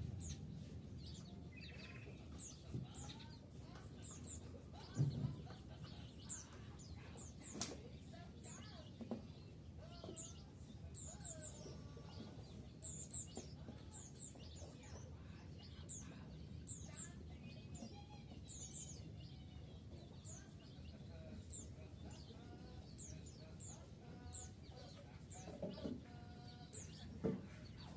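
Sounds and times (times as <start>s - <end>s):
flock of birds chirping: 0.0s - 27.9s
low background noise: 0.0s - 27.9s.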